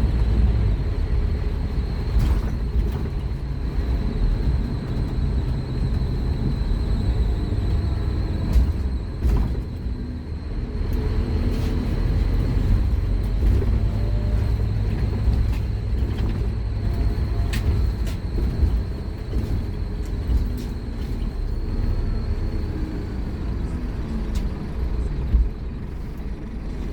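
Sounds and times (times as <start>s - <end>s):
bus body clicks and rattles: 0.0s - 26.9s
bus diesel engine rumbling: 0.0s - 26.9s.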